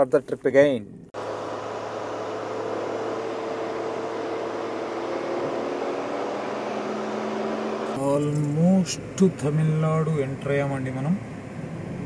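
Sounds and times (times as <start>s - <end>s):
car engine hum: 1.1s - 12.0s
tyre and road noise: 1.2s - 12.0s.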